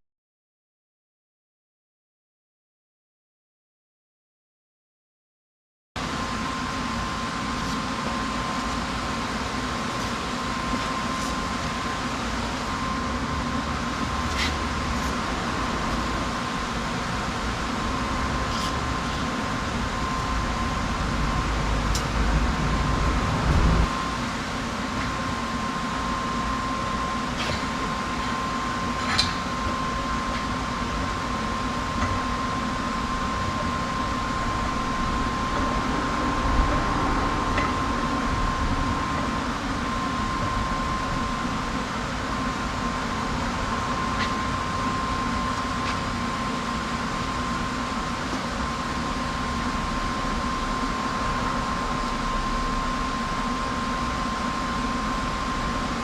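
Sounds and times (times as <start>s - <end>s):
motor hum with high tone: 6.0s - 56.0s.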